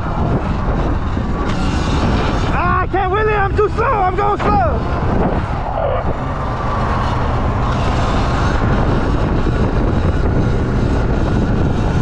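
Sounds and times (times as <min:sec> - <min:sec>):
electric dirt bike rumble: 0:00.0 - 0:12.0
wind noise on microphone: 0:00.0 - 0:12.0.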